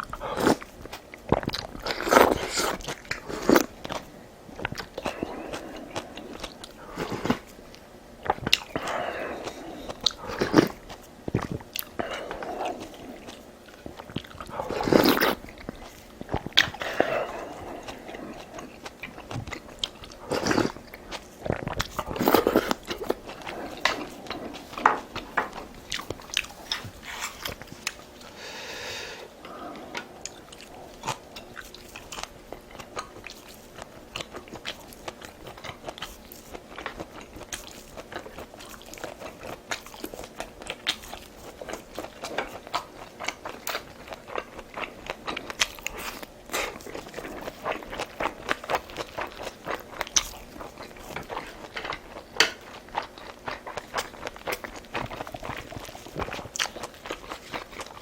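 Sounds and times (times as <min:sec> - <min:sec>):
person chewing and crunching food: 0:00.0 - 0:58.0.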